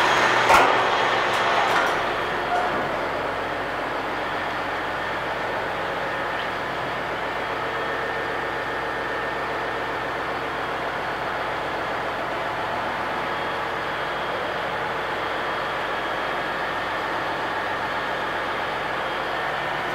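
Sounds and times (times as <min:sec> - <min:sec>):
constant hum tone: 0:00.0 - 0:19.9
ship machinery drone: 0:00.0 - 0:19.9.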